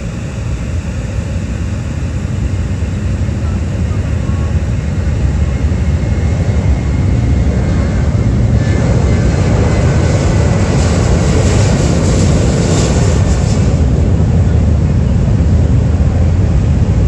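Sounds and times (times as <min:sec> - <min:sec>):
aircraft engine rumble: 0:00.0 - 0:17.0
jet engines rushing hiss: 0:00.0 - 0:17.0.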